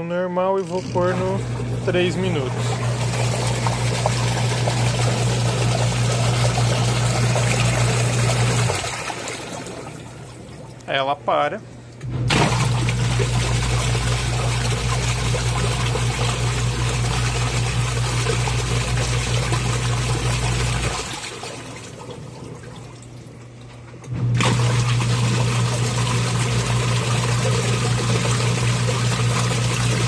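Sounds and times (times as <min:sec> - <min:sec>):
washing machine motor humming: 0:00.0 - 0:30.0
water churning and sloshing: 0:00.6 - 0:30.0.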